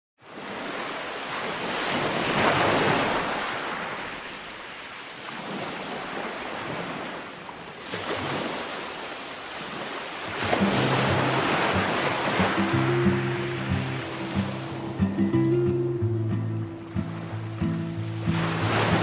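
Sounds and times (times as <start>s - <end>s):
ocean waves washing in: 0.2s - 19.0s.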